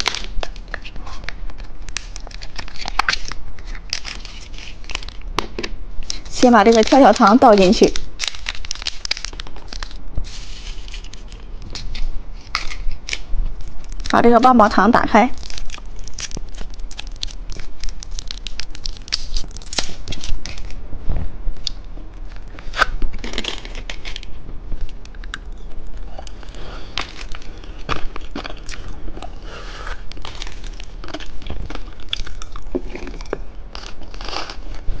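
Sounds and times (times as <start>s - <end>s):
plastic wrapper crinkling: 0.0s - 20.8s, 21.5s - 29.1s, 30.0s - 34.8s.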